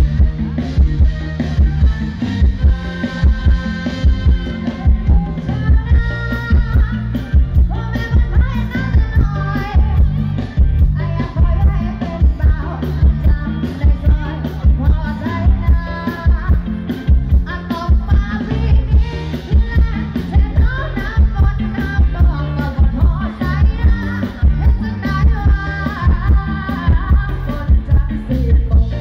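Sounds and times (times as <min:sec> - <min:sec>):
stage band music with heavy bass: 0:00.0 - 0:29.0
woman singing: 0:00.0 - 0:29.0.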